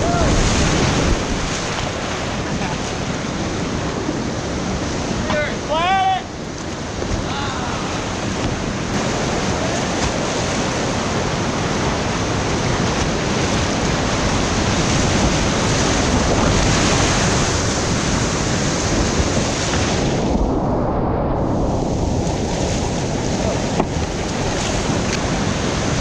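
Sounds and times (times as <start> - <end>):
river rapid rushing: 0.0 - 20.4, 22.2 - 26.0.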